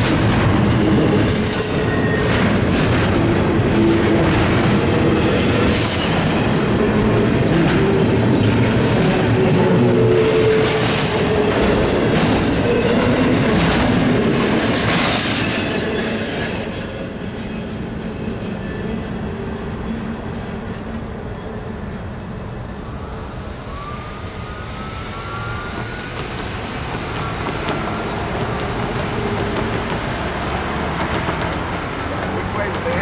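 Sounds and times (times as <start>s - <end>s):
freight train wheels on rails: 0.0s - 33.0s.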